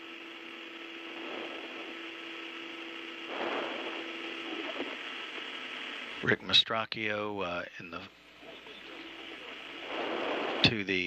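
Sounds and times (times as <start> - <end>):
low even hum: 0.0 - 11.0
radio static hiss: 0.0 - 11.0
rush of radio noise: 0.0 - 11.0.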